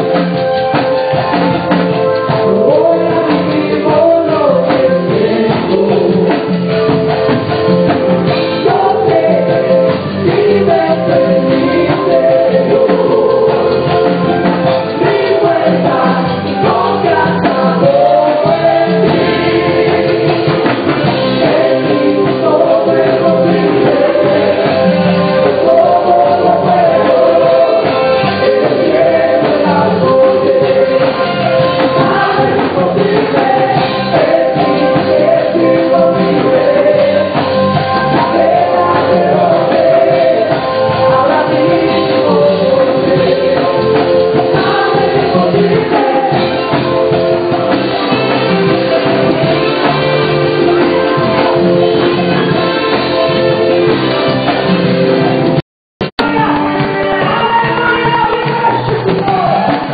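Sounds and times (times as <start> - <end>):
group singing gospel: 0.0 - 55.6
live band playing: 0.0 - 59.9.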